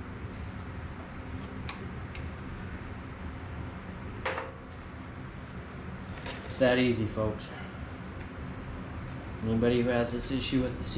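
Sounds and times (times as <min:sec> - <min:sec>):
faint background hum: 0:00.0 - 0:10.9
insect chirping: 0:00.0 - 0:10.9.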